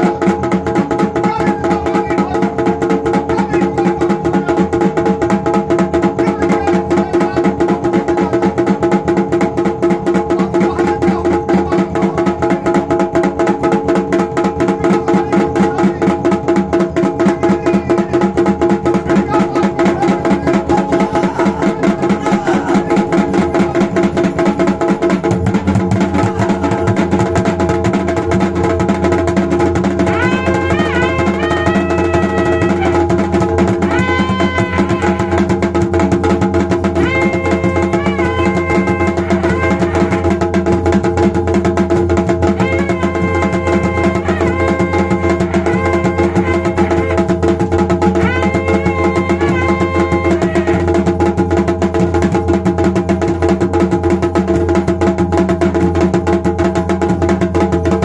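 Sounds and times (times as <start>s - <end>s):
barrel drum beating fast: 0.0s - 58.0s.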